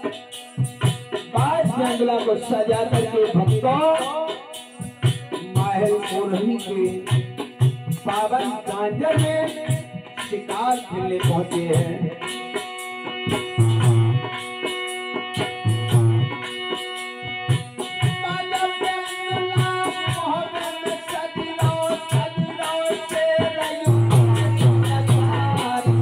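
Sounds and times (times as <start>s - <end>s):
held melody: 0.0s - 26.0s
hand drum beating: 2.7s - 20.4s, 21.1s - 26.0s.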